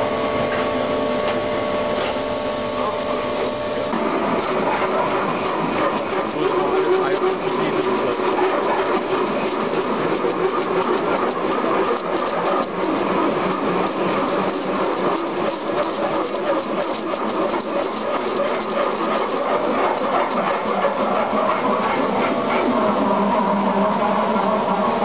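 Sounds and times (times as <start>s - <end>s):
drilling machine boring steel: 0.0s - 25.0s.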